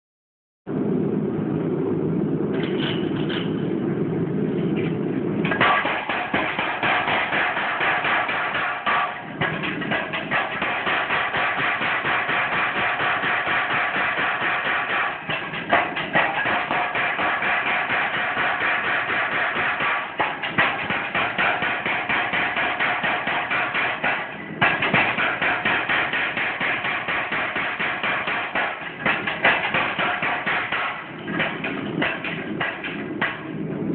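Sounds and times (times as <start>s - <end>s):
power hammer pounding: 5.4s - 33.9s.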